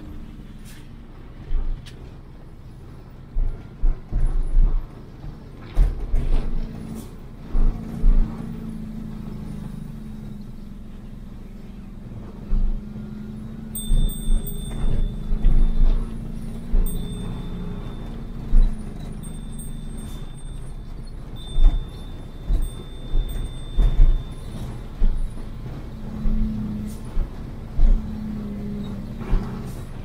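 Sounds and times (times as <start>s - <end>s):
vehicle engine running: 0.0s - 30.0s
low thuds and knocks: 3.3s - 10.3s, 12.1s - 30.0s.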